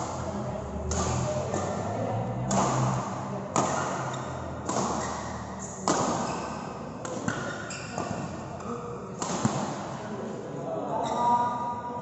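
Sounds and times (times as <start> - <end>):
racket hitting shuttlecock: 0.0 - 10.1.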